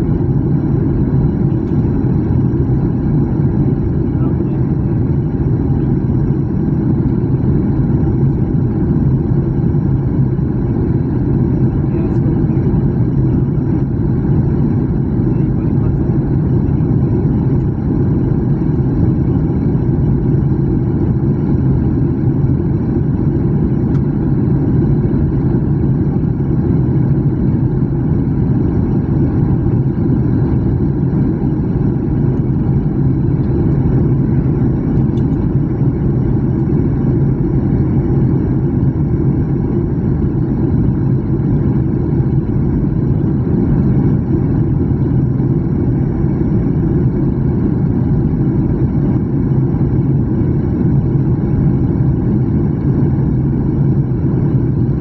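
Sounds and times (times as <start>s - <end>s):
jet airliner cabin drone: 0.0s - 55.0s.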